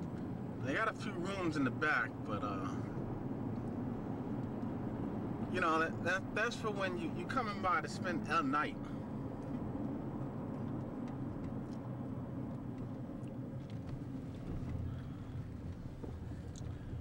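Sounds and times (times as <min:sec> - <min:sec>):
car interior engine hum: 0:00.0 - 0:17.0.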